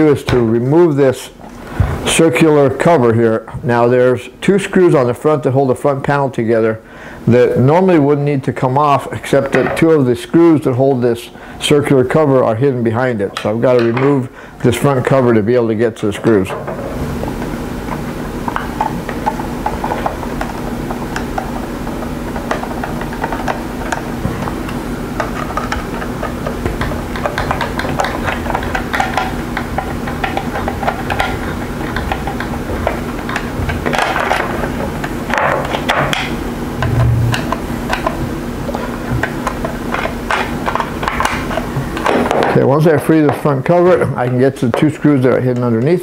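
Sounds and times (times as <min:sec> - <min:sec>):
steady low hum: 0:00.0 - 0:42.1.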